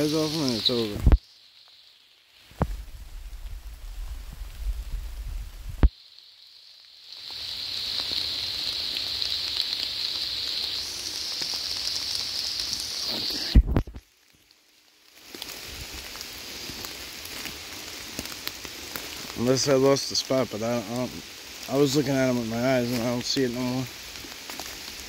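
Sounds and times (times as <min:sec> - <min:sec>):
rain hissing: 0:00.0 - 0:25.0.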